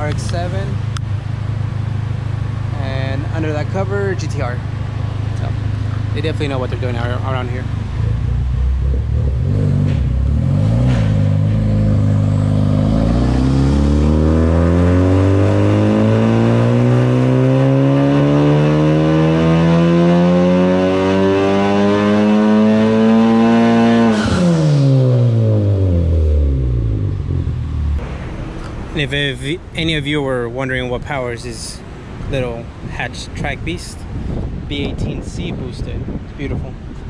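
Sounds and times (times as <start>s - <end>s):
car engine revving: 0.0s - 29.8s.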